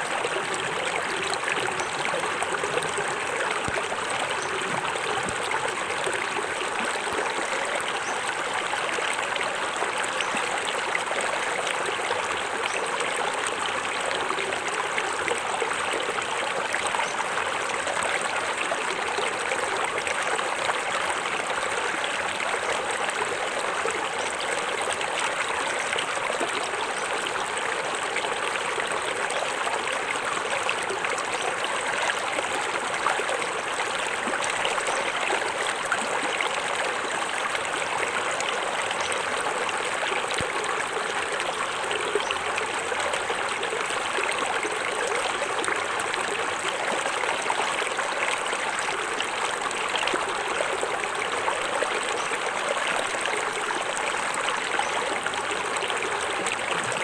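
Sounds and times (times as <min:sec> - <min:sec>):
small waterfall splashing: 0:00.0 - 0:57.0.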